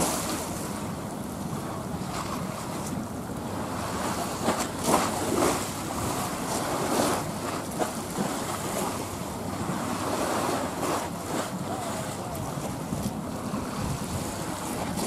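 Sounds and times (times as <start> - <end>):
waves on choppy sea: 0.0 - 15.0
wind buffeting microphone: 0.0 - 15.0.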